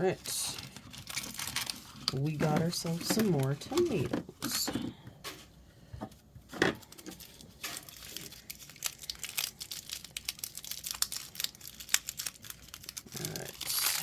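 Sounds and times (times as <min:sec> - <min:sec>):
plastic packaging crinkling: 0:00.0 - 0:04.6, 0:06.5 - 0:14.0.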